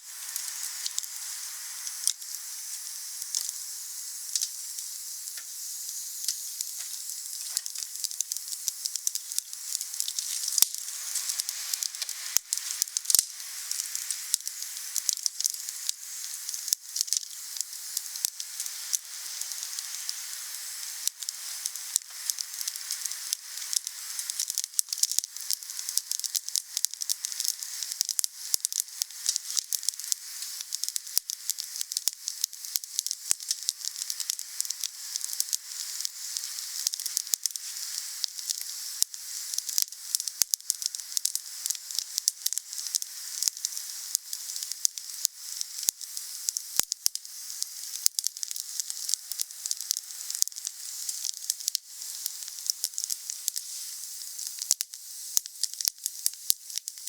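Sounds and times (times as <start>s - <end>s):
wood fire crackling and hissing: 0.0s - 57.0s.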